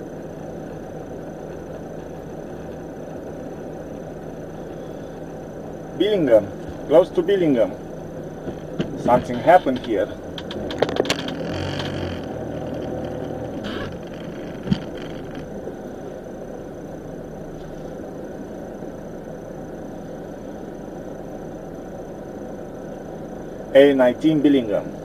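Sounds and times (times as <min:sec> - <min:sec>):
engine and road noise inside vehicle: 0:00.0 - 0:25.0.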